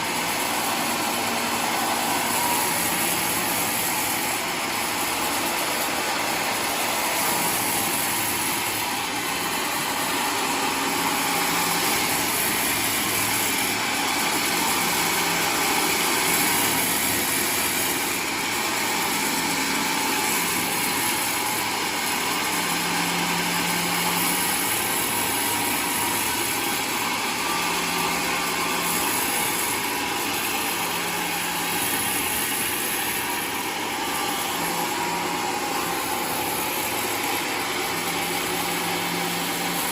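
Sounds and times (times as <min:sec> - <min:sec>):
sawmill engine and saw running: 0:00.0 - 0:39.9.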